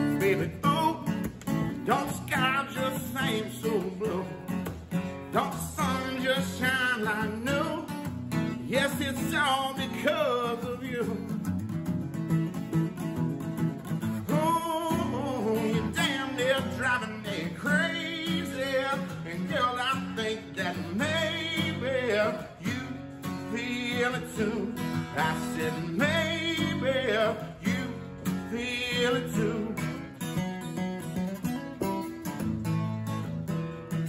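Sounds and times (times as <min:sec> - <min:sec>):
man singing: 0:00.0 - 0:11.5, 0:14.2 - 0:30.4
acoustic guitar: 0:00.0 - 0:34.0.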